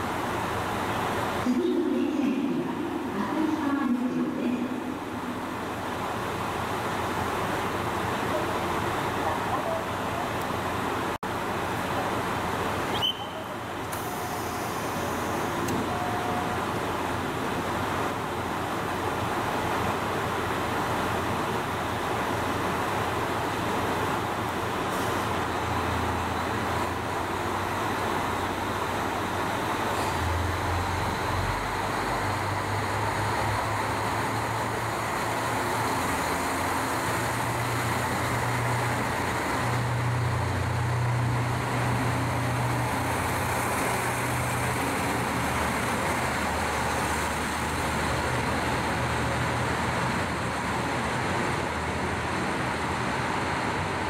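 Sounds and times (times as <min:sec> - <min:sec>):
diesel railcar engines idling: 0:00.0 - 0:54.0.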